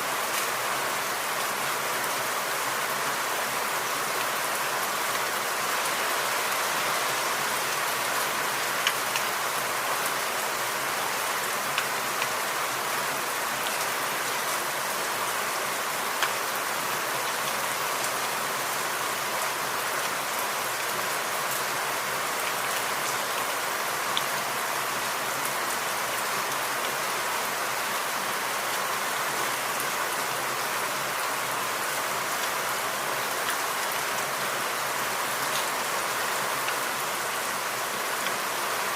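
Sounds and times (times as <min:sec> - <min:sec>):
steady rain in a forest: 0:00.0 - 0:38.9.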